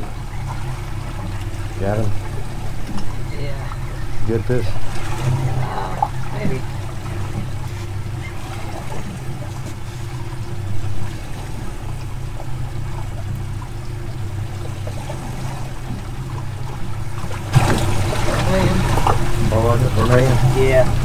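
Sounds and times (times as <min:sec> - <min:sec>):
outboard engines idling: 0:00.0 - 0:21.0
water lapping: 0:00.0 - 0:21.0.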